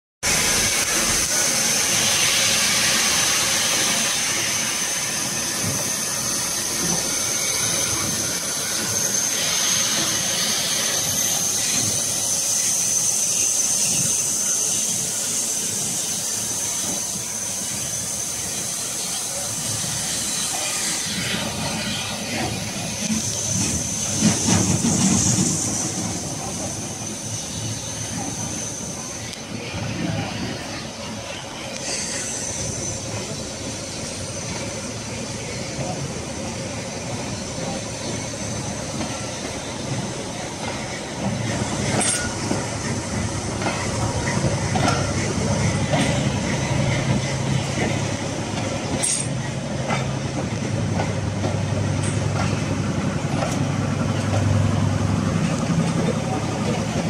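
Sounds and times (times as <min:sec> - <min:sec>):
steam hissing: 0:00.2 - 0:57.0
train rumbling: 0:00.2 - 0:57.0.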